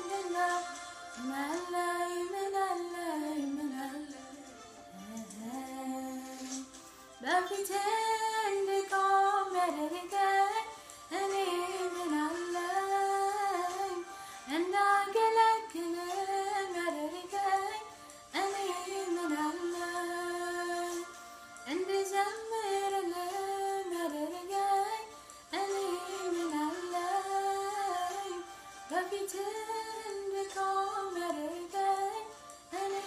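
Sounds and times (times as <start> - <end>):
woman singing a religious song: 0.0 - 33.0.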